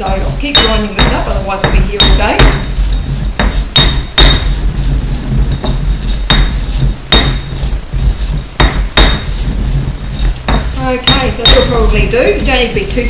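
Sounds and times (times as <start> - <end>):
pestle knocking against mortar: 0.0 - 4.7, 5.4 - 12.5
pestle grinding seeds: 0.0 - 13.0.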